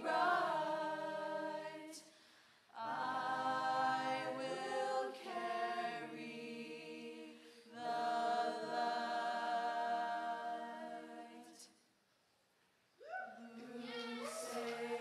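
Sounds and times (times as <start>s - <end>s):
women singing a cappella chords: 0.0s - 2.1s, 2.7s - 11.8s, 13.3s - 15.0s.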